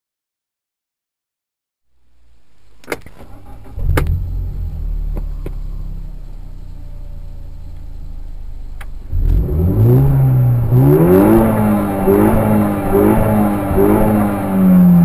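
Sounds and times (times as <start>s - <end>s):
car engine idling and revving: 2.1s - 15.0s.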